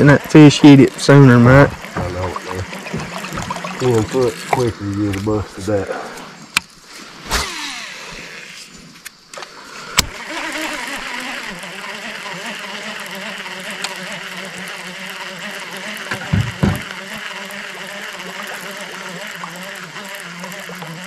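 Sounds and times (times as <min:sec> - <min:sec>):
reel cranking whir: 0:00.0 - 0:05.1, 0:07.3 - 0:08.7, 0:10.0 - 0:21.0
fishing reel spool whine: 0:00.0 - 0:06.4, 0:07.2 - 0:21.0.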